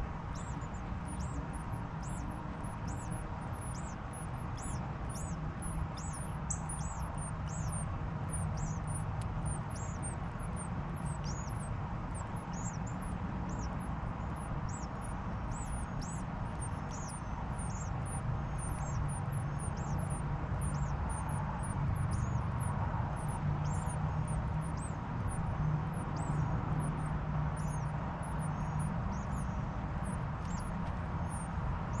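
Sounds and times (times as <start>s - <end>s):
bird chips: 0.0s - 25.4s, 30.4s - 32.0s
steady low hum: 0.0s - 32.0s.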